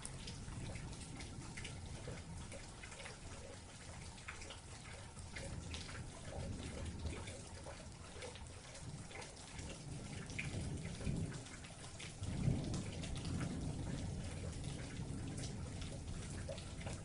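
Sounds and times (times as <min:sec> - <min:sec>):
raindrops pattering and dripping: 0:00.0 - 0:17.0.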